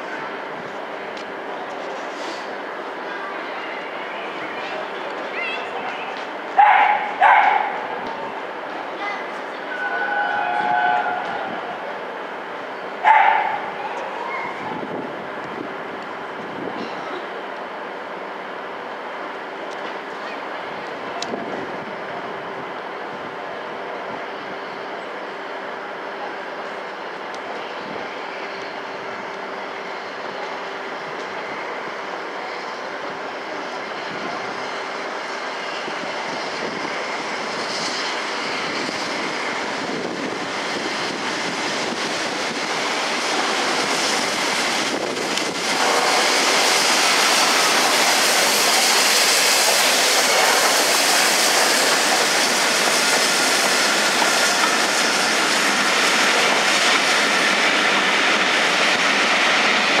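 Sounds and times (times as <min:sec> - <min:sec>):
coaches rolling on rails: 0:00.0 - 1:00.0
steam locomotive passing: 0:00.0 - 1:00.0.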